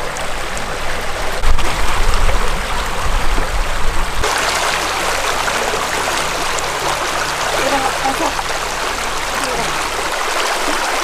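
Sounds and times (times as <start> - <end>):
creek water rushing over rocks: 0.0 - 11.0
low rumbling: 0.0 - 11.0.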